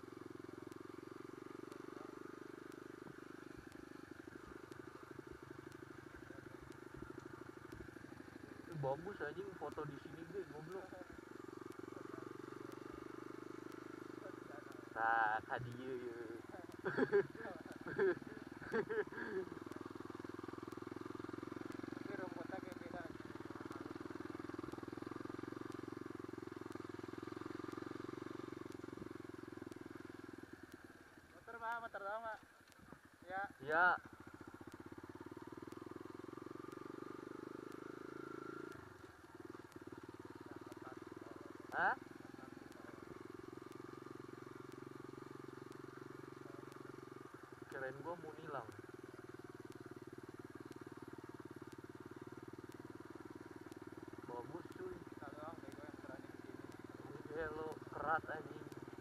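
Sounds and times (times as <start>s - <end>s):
motorcycle engine putter: 0.0s - 59.0s.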